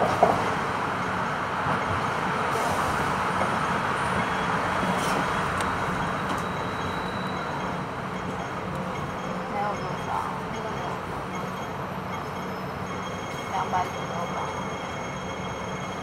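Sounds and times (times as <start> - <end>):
tram wheels on rails: 0.0 - 16.0.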